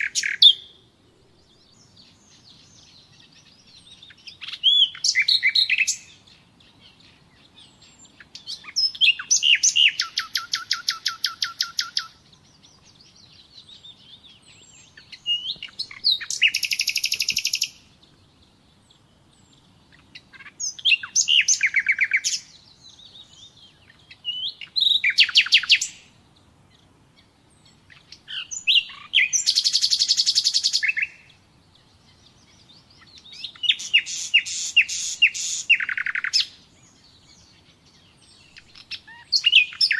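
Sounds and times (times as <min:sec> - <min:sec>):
nightingale singing trills: 0:00.0 - 0:39.9.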